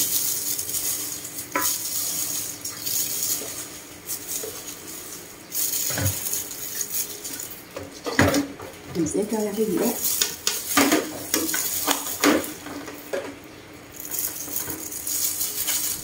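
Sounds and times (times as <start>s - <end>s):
utensils and dishes clinking: 0.0s - 16.0s.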